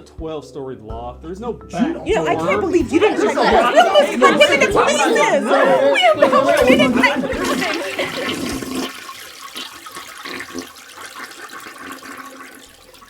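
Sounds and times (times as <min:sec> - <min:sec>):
toilet flushing: 0:02.2 - 0:13.0.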